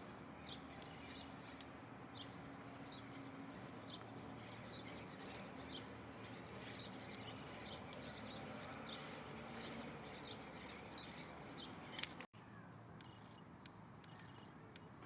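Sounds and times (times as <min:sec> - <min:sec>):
small birds chirping: 0:00.3 - 0:15.0.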